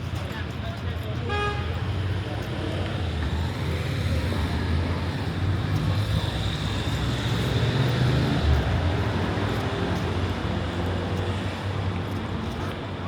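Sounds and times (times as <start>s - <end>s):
car and bus engines rumbling: 1.8s - 13.0s.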